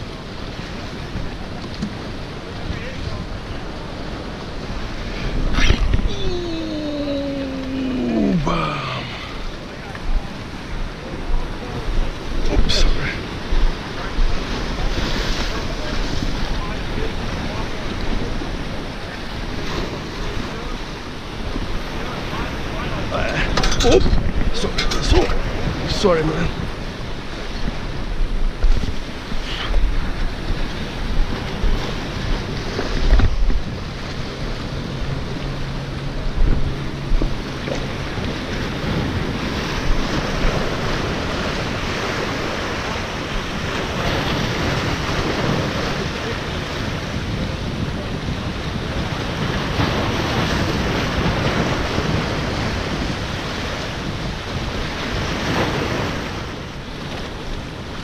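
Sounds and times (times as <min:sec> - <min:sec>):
ocean surf washing: 0:00.0 - 0:58.0
wind buffeting microphone: 0:00.0 - 0:58.0.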